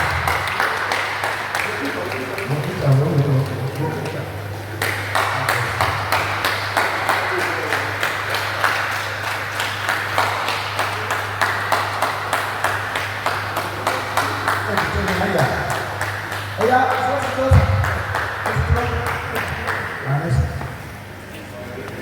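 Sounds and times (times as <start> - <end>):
audience clapping in rhythm: 0.0 - 21.1
low electrical hum: 0.0 - 22.0.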